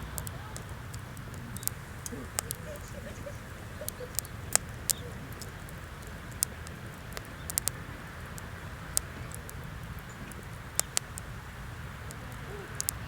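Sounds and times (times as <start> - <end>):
fire pops and snaps: 0.0 - 13.0
steady low rumble: 0.0 - 13.0
wood fire crackling: 0.0 - 13.0.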